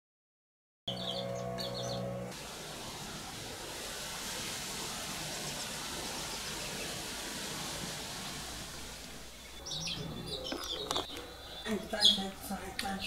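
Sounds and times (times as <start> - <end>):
hissing outdoor ambience: 0.9 - 13.0.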